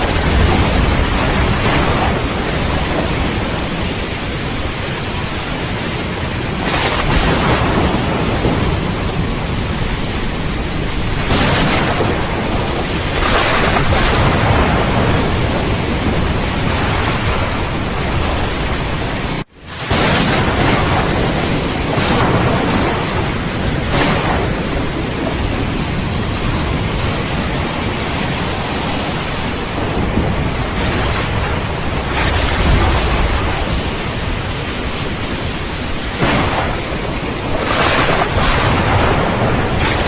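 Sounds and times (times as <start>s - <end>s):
heavy rain falling: 0.0s - 40.0s
thunder rumbling: 0.0s - 40.0s.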